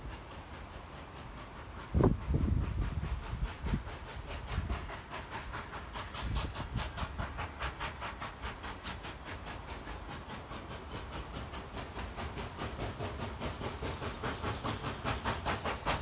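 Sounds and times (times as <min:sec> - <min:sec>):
steam hiss: 0:00.0 - 0:16.0
steam locomotive chuffing: 0:00.0 - 0:16.0.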